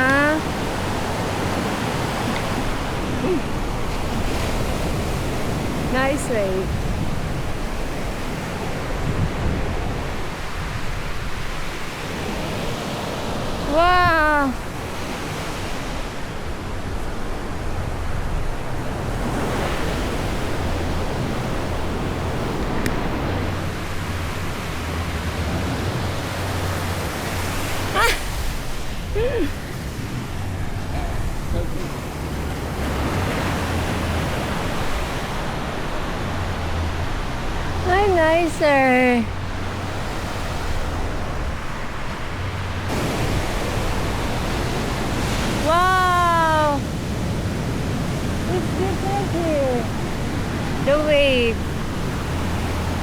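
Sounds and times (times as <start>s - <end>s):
ocean surf breaking on shore: 0.0s - 53.0s.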